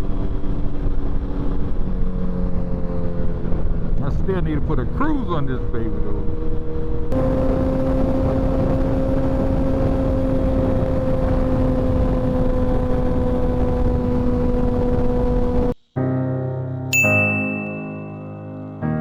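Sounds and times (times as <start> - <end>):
motorcycle engine hum: 0.0 - 15.8
rushing wind: 0.0 - 15.8.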